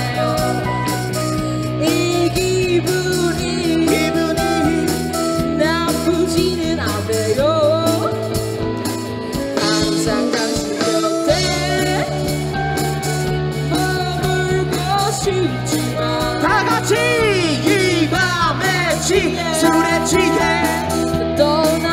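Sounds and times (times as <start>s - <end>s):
person singing: 0.0s - 8.5s, 9.4s - 13.0s, 13.6s - 21.9s
bass guitar: 0.0s - 21.9s
drums: 0.0s - 21.9s
electric guitars: 0.0s - 21.9s.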